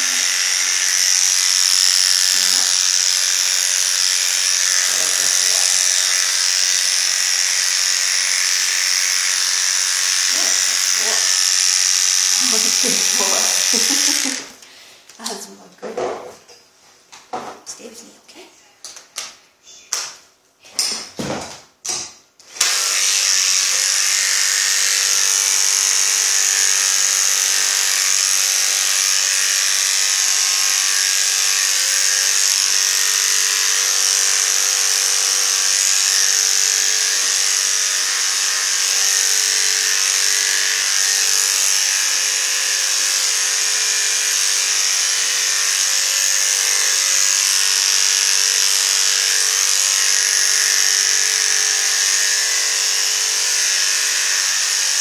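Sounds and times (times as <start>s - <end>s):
electric clippers buzzing: 0.0s - 14.6s, 21.9s - 55.0s.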